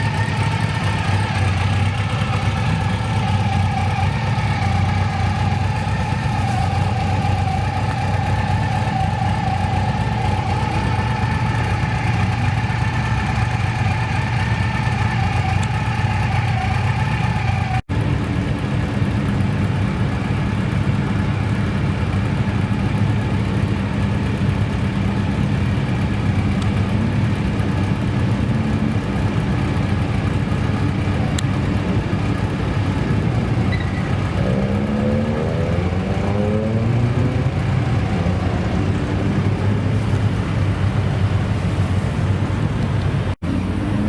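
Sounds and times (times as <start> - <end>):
engine revving: 0.0 - 17.9, 24.7 - 44.0
car engines idling: 0.0 - 44.0.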